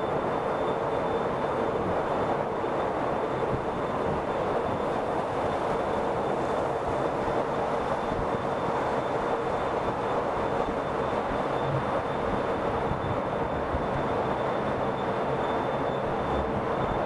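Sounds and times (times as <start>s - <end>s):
faint high whine: 0.0s - 17.0s
traffic road noise in tunnel: 0.0s - 17.0s.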